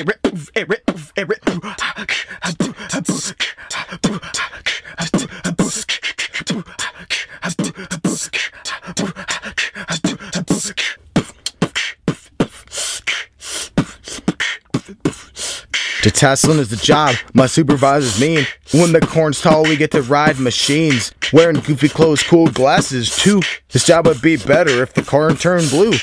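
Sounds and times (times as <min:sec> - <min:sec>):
beatboxing: 0:00.0 - 0:26.0.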